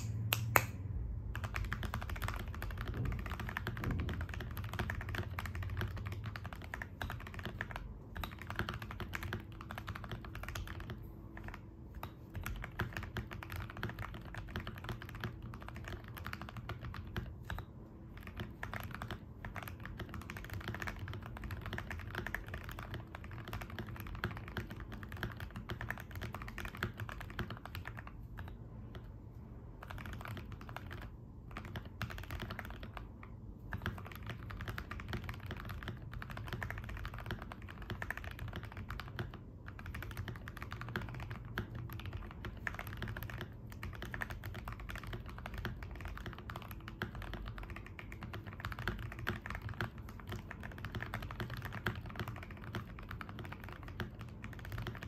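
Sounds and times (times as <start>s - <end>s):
fast typing on mechanical keyboard: 1.2s - 55.0s.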